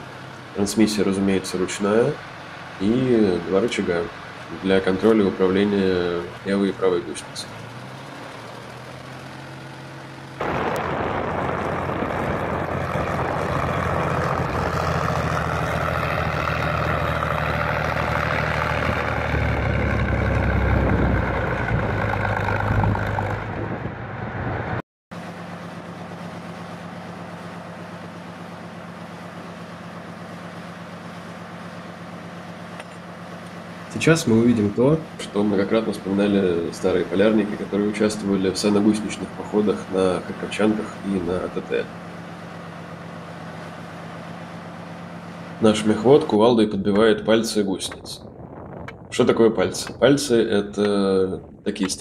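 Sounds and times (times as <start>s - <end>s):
heavy diesel engine: 0.0s - 52.0s.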